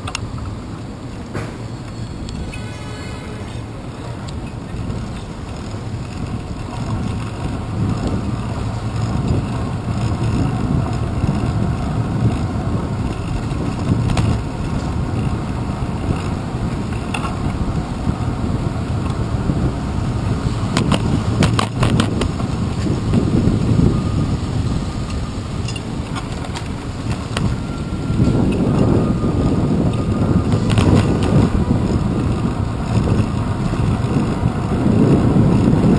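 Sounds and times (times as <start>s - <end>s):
bicycle rolling over street: 1.2s - 35.9s.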